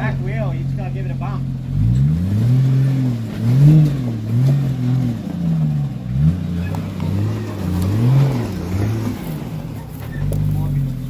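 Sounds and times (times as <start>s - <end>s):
engine revving in throttle blips: 0.0s - 11.0s.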